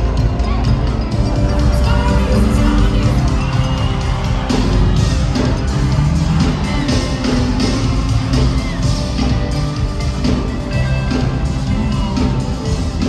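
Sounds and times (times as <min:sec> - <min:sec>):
crowd cheering: 0:00.0 - 0:13.0
gospel band playing: 0:01.0 - 0:13.0
drum beat: 0:01.1 - 0:13.0.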